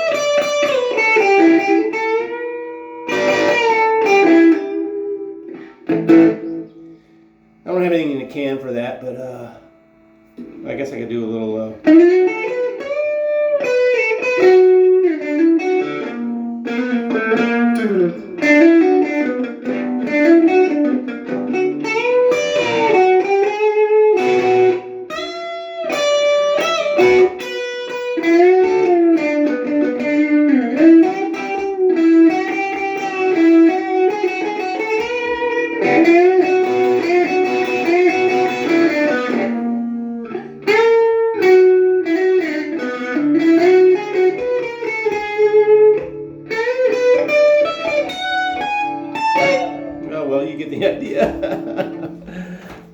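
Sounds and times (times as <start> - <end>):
overdriven electric guitar: 0.0 - 52.9.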